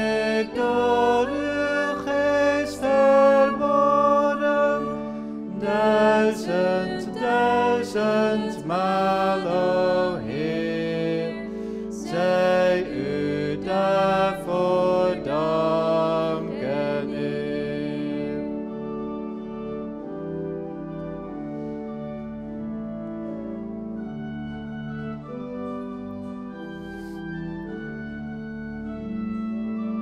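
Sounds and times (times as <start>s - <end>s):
held instrumental accompaniment: 0.0s - 30.0s
hymn singing: 0.0s - 30.0s.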